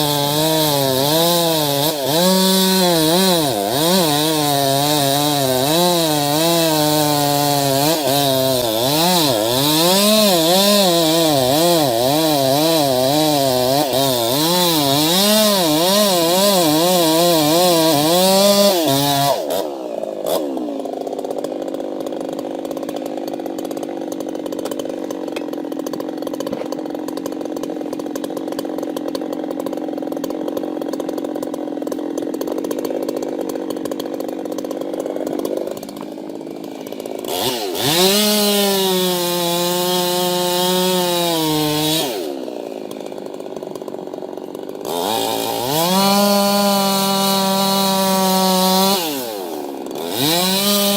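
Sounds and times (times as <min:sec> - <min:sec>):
chainsaw engine cutting: 0:00.0 - 0:50.9.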